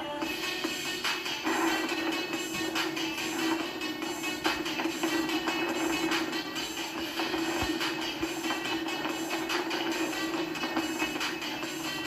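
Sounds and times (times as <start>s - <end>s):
rapid clicking music texture: 0.3s - 12.0s.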